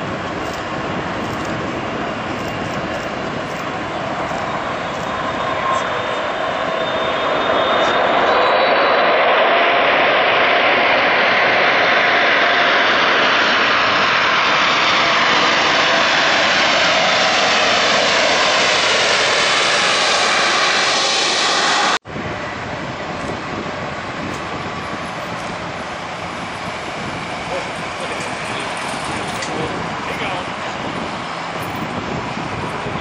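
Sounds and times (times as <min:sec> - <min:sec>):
jet engines roaring with whine: 0:00.0 - 0:33.0
taxiing jet engine noise: 0:00.0 - 0:33.0.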